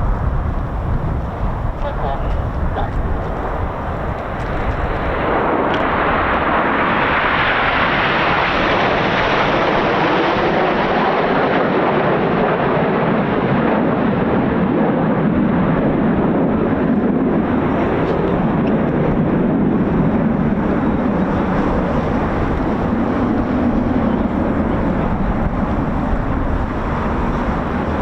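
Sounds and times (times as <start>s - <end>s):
jets passing overhead: 0.0s - 28.0s.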